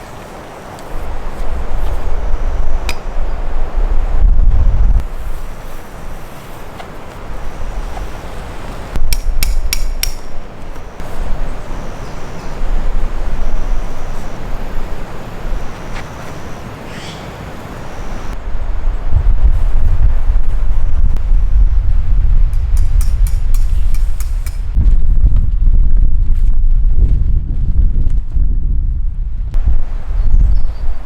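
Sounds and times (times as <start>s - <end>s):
wind gusting on microphone: 0.0s - 31.0s.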